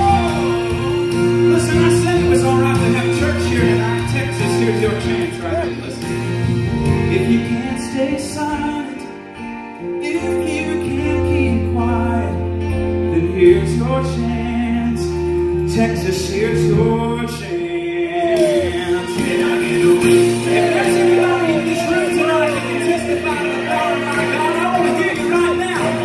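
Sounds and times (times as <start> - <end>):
strummed acoustic guitars: 0.0 - 26.0.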